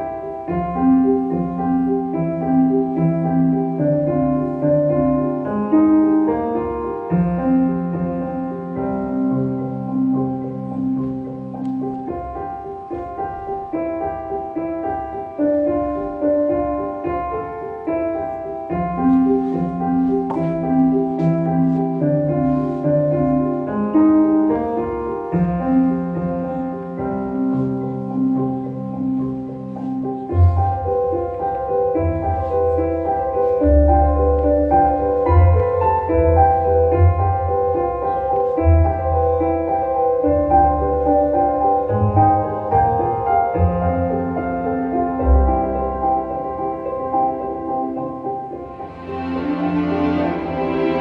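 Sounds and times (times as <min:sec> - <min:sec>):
piano melody: 0:00.0 - 0:51.0.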